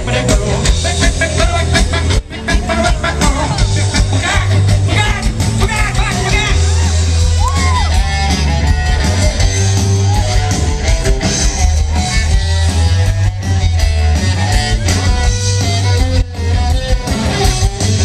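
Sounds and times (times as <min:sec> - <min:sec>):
distorted electric cello lead: 0:00.0 - 0:18.0
live rock band playing: 0:00.0 - 0:18.0.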